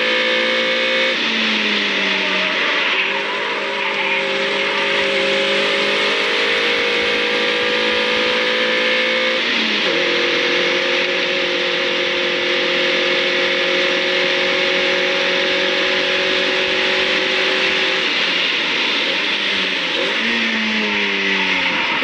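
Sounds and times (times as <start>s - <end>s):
car engine running: 0.0s - 22.0s
wind and road noise: 0.0s - 22.0s.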